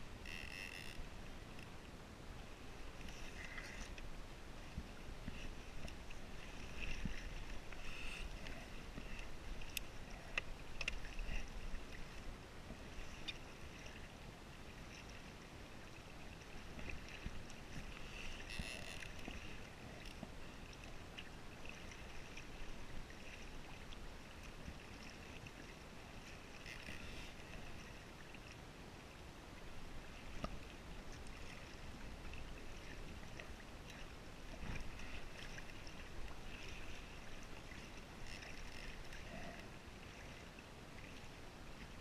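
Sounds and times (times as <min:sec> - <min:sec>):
water lapping against a hull: 0:00.0 - 0:42.0.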